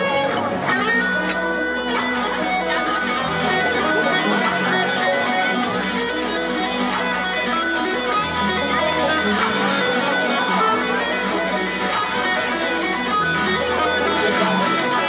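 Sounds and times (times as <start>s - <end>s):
electric guitar picked notes: 0.0s - 15.0s.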